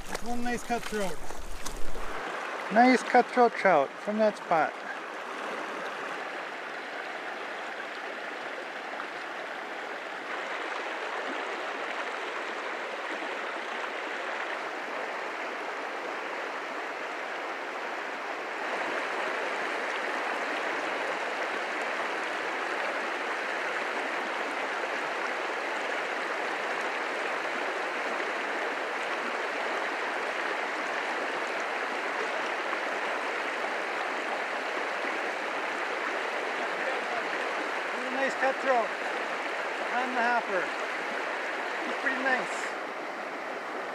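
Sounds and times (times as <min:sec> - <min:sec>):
creek rushing over rocks: 0:00.0 - 0:43.9.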